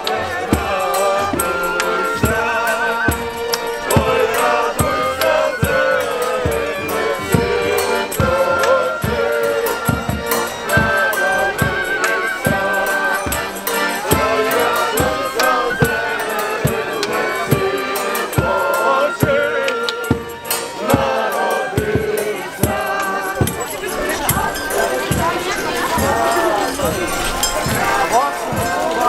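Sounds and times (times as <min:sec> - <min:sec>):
group singing a carol: 0:00.0 - 0:29.0
live instruments: 0:00.0 - 0:29.0.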